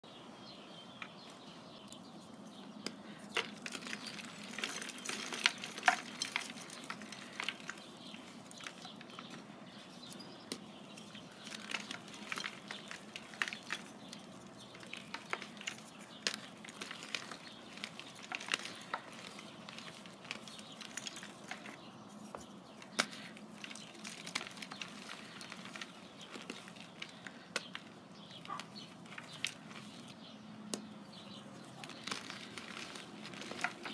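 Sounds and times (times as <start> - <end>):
crumbly lumps crunching by hand: 0.8 - 33.9.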